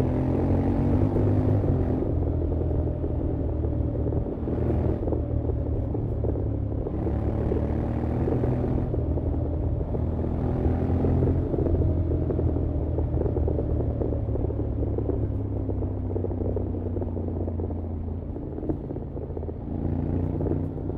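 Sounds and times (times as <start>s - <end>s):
motorcycle engine and exhaust: 0.0s - 20.9s.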